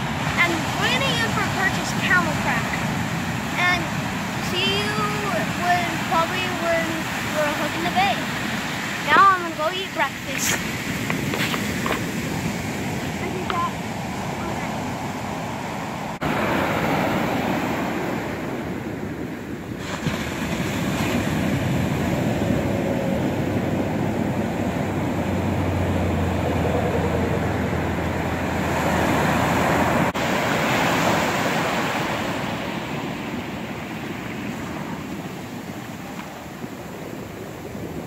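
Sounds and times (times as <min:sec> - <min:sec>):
ocean surf breaking: 0:00.0 - 0:38.0
wind on microphone: 0:00.0 - 0:38.0.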